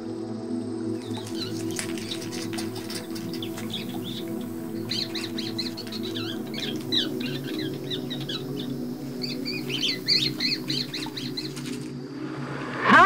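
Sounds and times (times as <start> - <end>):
steady low hum: 0.9 - 12.1
high-pitched bird chirps: 1.0 - 11.8.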